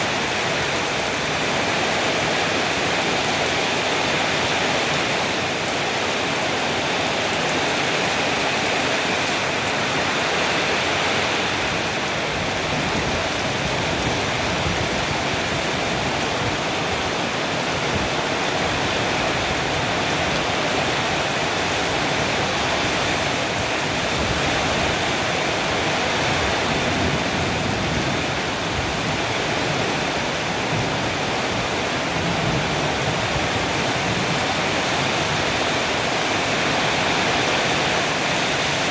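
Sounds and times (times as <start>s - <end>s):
rain: 0.0s - 38.9s
storm wind: 0.0s - 38.9s.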